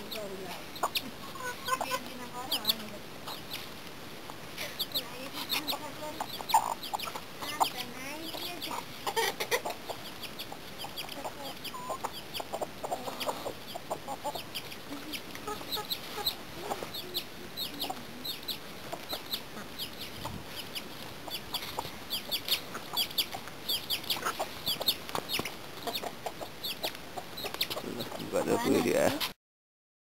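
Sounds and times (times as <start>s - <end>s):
chickens clucking: 0.0s - 29.3s.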